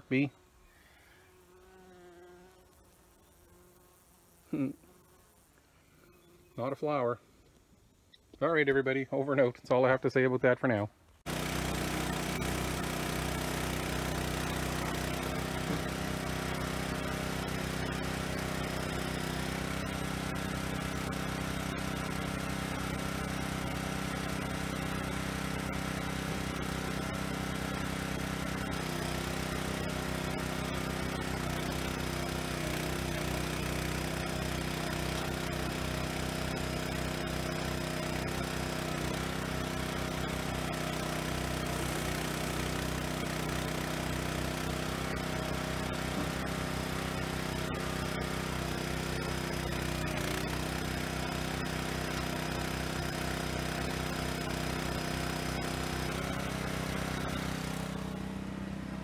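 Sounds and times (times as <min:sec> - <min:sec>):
engine running steadily: 0:11.3 - 0:59.0.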